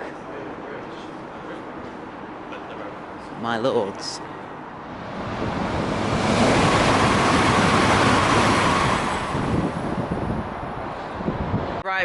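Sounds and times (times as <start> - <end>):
train passing with rushing noise: 0.0 - 11.8.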